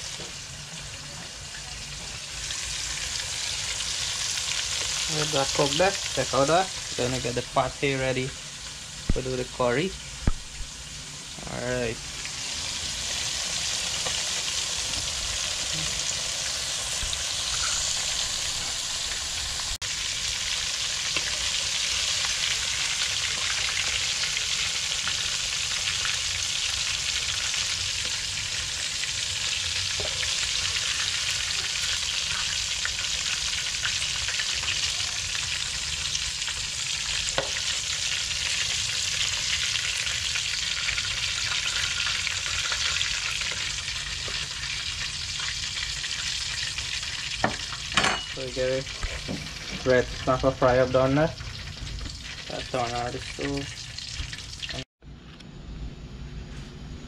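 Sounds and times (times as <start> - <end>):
fish sizzling in hot oil: 0.0 - 54.9.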